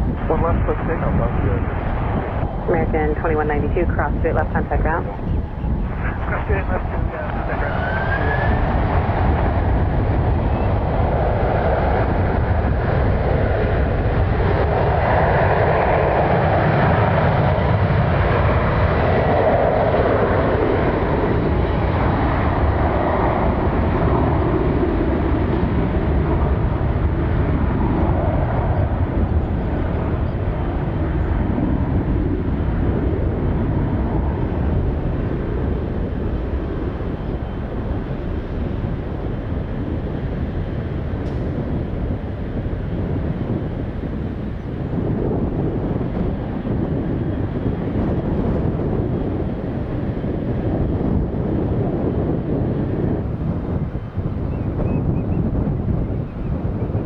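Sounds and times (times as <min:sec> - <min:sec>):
jet engines at takeoff: 0:00.0 - 0:57.0.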